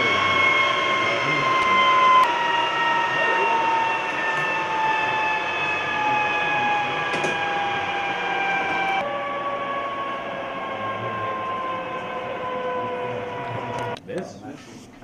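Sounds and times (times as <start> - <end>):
jet engine turbine whine: 0.0 - 14.1.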